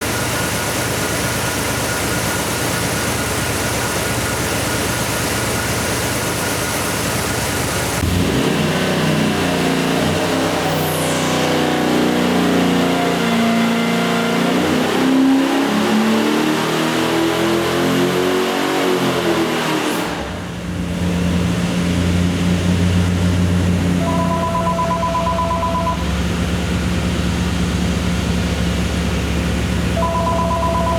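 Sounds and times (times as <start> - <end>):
engine revving and idling: 0.0 - 30.9.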